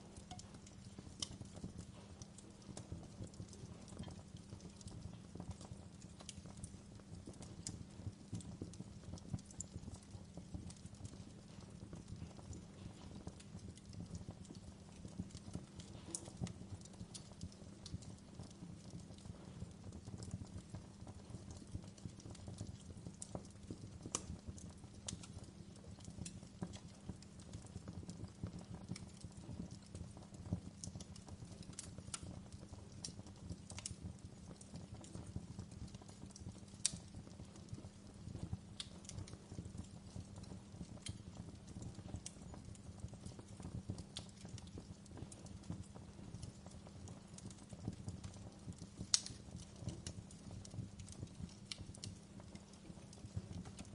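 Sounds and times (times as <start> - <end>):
fireplace crackling: 0.0 - 53.9
low rumble of fire: 0.0 - 53.9.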